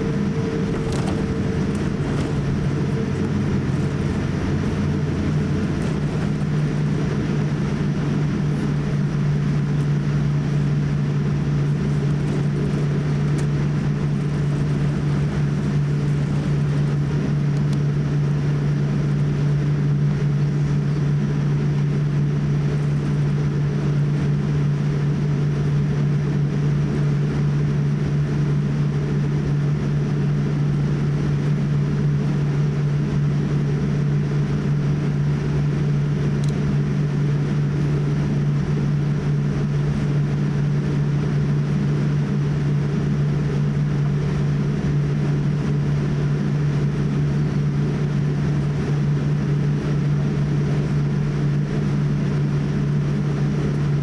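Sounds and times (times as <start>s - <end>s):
airliner cabin hum and rumble: 0.0s - 54.0s.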